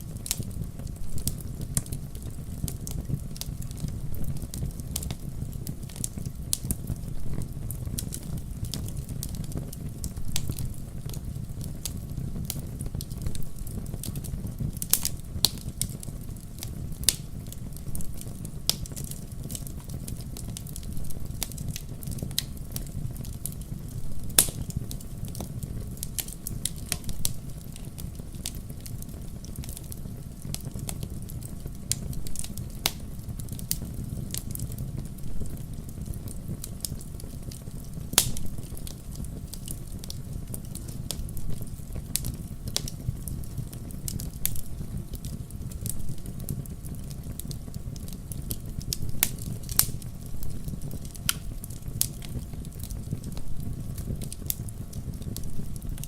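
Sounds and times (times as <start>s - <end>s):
fireplace fire crackling and popping: 0.0s - 56.0s
low fire rumble: 0.0s - 56.0s.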